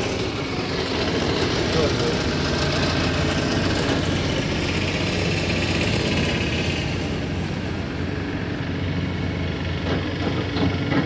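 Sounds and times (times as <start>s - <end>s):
heavy diesel engines droning: 0.0s - 11.0s.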